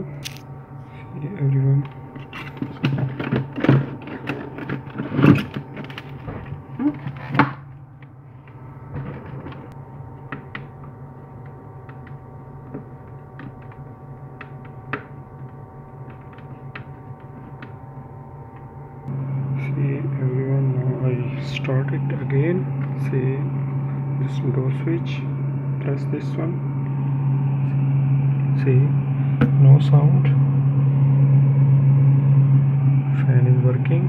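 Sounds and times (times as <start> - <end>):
freezer hum: 0.0 - 34.0.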